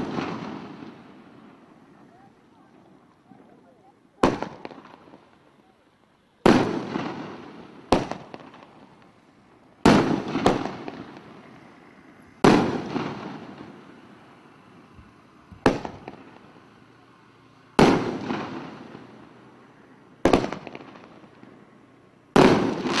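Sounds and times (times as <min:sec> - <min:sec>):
firework bangs: 0:00.0 - 0:05.7, 0:06.4 - 0:23.0.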